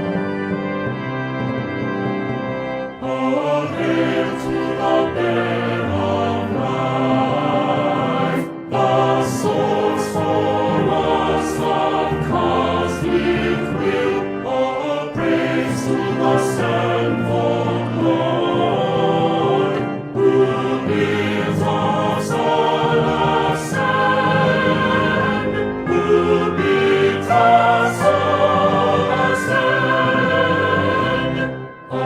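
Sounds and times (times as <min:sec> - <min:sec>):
choir singing held chords: 0:02.8 - 0:32.0.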